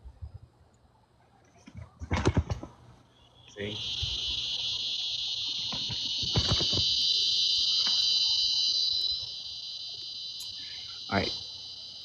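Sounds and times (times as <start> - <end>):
insects buzzing: 1.8 - 12.0.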